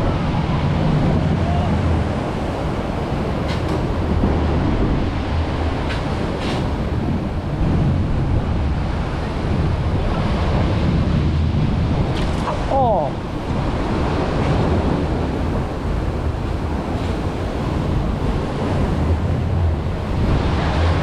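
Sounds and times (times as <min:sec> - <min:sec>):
rushing churning water: 0:00.0 - 0:21.0
wind rumble on microphone: 0:00.0 - 0:21.0.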